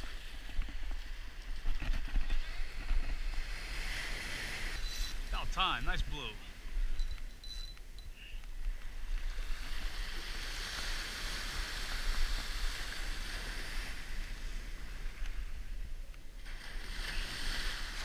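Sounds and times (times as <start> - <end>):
small ocean waves breaking: 0.0 - 7.3, 8.5 - 18.0.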